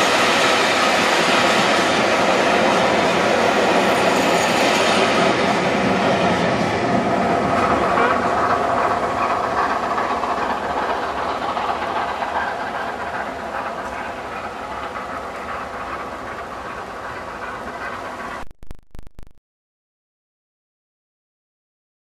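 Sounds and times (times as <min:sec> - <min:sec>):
train rail rumble: 0:00.0 - 0:18.4.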